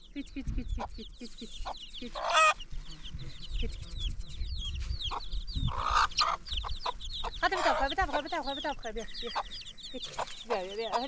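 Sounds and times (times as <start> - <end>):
fowl chirping: 0.0 - 11.0.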